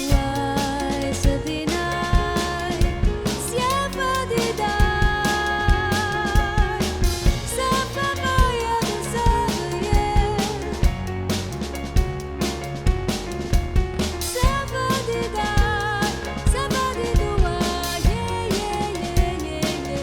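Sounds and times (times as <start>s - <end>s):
synth-pop band music: 0.0s - 20.0s.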